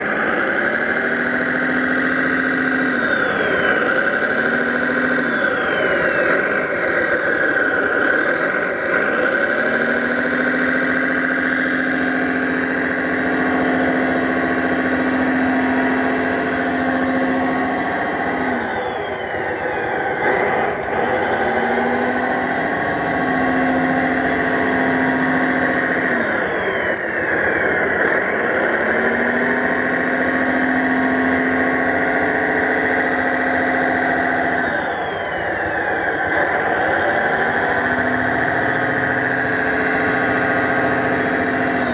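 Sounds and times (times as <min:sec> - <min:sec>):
toy tractor engine droning: 0:00.0 - 0:41.9.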